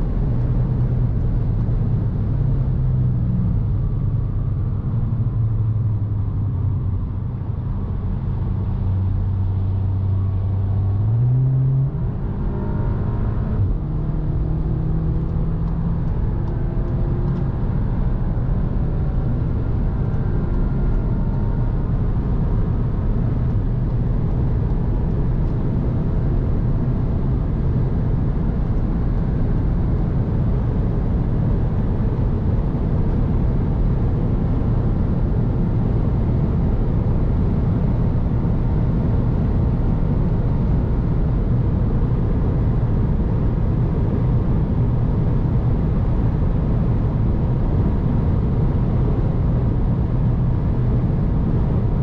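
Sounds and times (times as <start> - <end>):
car engine accelerating: 0.0 - 52.0
road and wind noise: 0.0 - 52.0.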